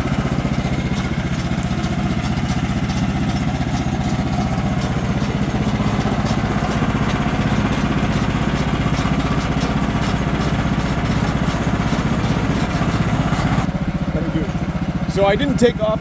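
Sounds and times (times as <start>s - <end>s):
gas engine running: 0.0s - 16.0s
band saw blade hissing: 0.7s - 13.7s.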